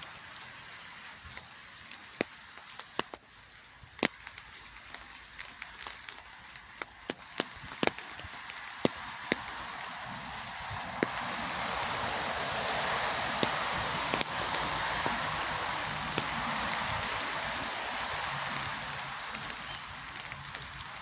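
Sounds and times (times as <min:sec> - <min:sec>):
rain hiss: 0:00.0 - 0:21.0
raindrops ticking on hard surface: 0:00.0 - 0:21.0.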